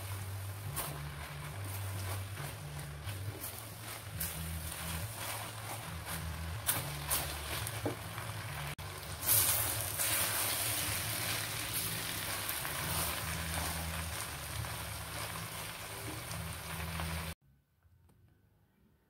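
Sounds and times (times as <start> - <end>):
food sizzling in a wok: 0.0 - 17.4.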